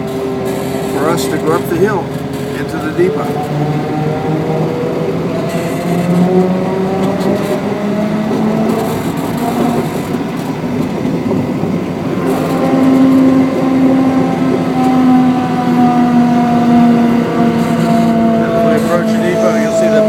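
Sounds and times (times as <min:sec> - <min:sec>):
diesel locomotive engine: 0:00.0 - 0:20.0
wheels rumbling on rails: 0:00.0 - 0:20.0.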